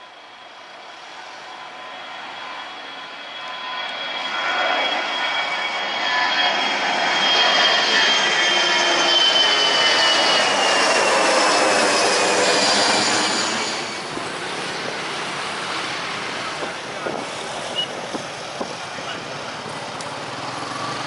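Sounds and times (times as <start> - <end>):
jet engines passing: 0.0 - 21.0.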